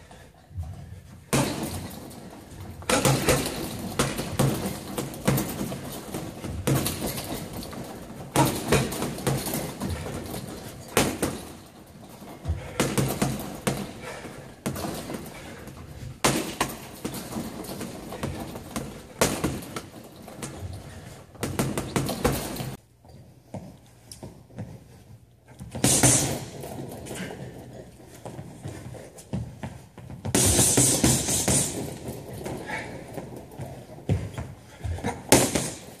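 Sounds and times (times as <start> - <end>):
gloves punching heavy bags: 0.1 - 22.8, 25.5 - 36.0.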